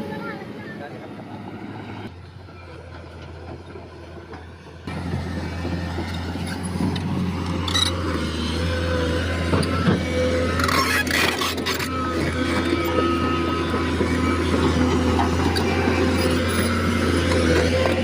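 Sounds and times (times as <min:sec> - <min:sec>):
excavator diesel engine running: 0:00.0 - 0:18.0
undercarriage clanks and squeals: 0:02.0 - 0:18.0.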